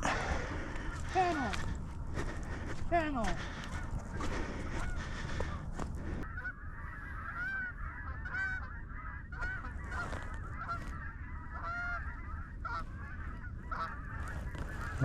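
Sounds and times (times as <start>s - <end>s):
geese honking: 0.0s - 15.0s
low wind rumble: 0.0s - 15.0s.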